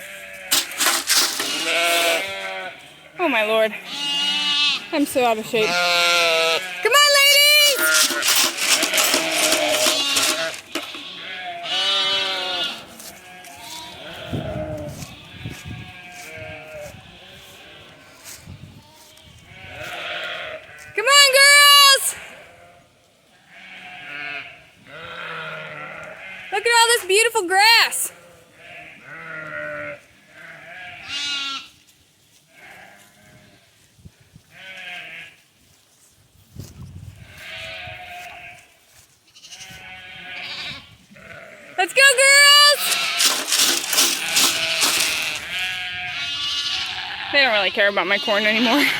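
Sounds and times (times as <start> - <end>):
sheep bleating: 0.0 - 18.1, 18.9 - 22.8, 23.4 - 27.0, 28.0 - 31.7, 34.5 - 35.4, 39.3 - 48.9.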